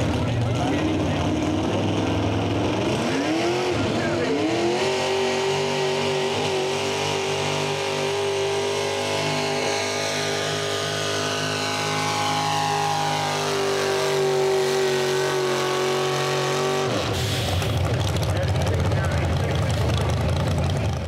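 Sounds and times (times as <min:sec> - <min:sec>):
rough engine noise: 0:00.0 - 0:21.0
truck engine running at high rpm: 0:00.0 - 0:21.0.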